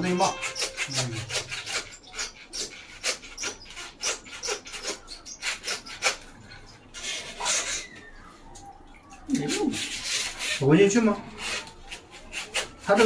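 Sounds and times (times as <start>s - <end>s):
metal tool scraping in toilet: 0.0s - 7.8s, 9.4s - 13.0s.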